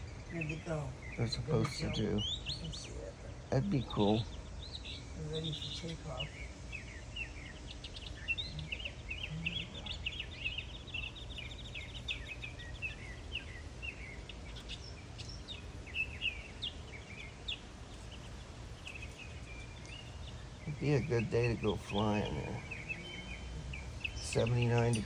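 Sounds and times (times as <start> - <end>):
steady low rumble: 0.0 - 25.0
whistling ducks calling: 0.0 - 25.0.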